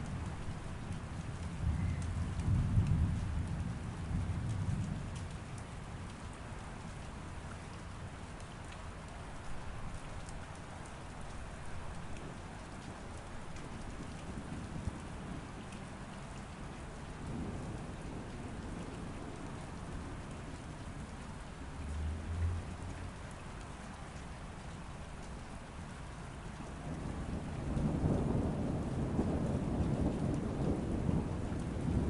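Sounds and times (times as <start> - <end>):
low rumble of thunder: 0.0 - 8.8, 9.4 - 23.7, 26.3 - 32.0
steady rain falling: 0.0 - 32.0.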